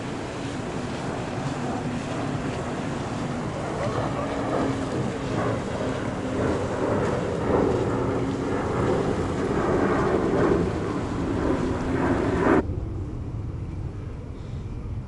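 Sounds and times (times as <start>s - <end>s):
distant engine drone: 0.0s - 15.0s
wind buffeting microphone: 0.0s - 15.0s.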